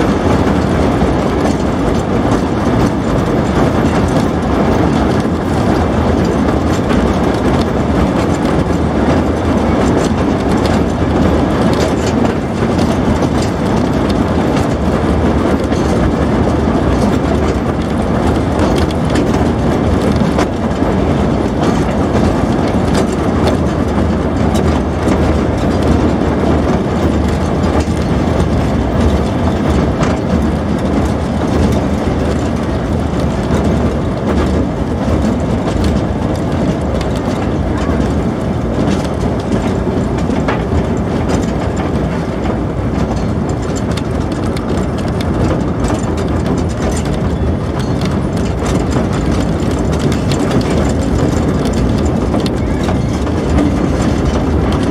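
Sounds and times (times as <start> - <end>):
train wheel and rail noise: 0.0 - 54.9.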